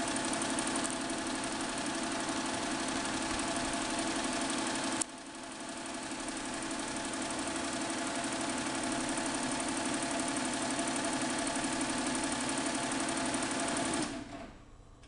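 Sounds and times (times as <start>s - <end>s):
embroidery machine stitching: 0.0s - 14.6s.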